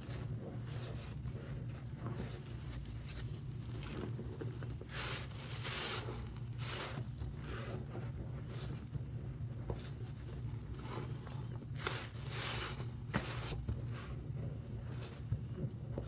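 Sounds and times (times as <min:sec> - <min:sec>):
sponge squelching in water: 0:00.0 - 0:16.0
steady low hum: 0:00.0 - 0:16.0.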